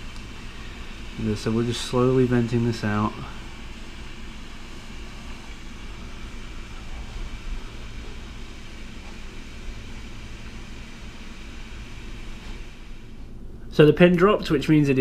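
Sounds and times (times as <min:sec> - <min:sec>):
steam valve hissing: 0:00.0 - 0:13.4.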